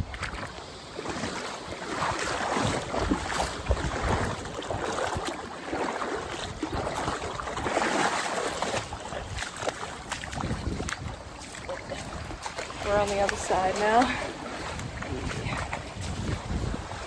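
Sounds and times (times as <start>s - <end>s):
water sloshing from wading: 0.0s - 17.0s.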